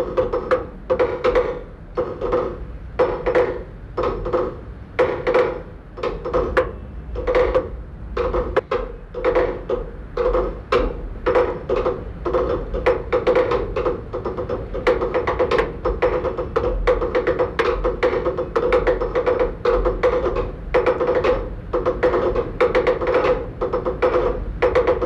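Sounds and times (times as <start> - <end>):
hollow pitched knock: 0.0 - 25.0.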